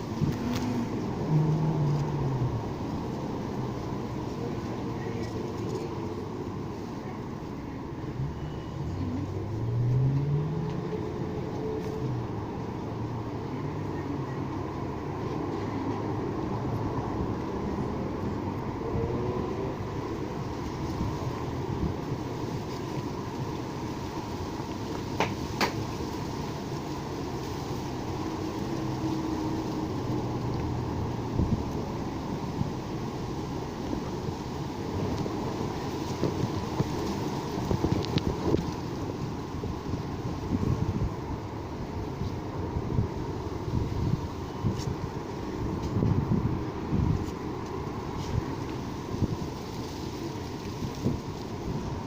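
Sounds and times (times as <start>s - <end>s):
background traffic noise: 0.0s - 52.0s
car passing: 0.0s - 52.0s
wind: 0.0s - 52.0s.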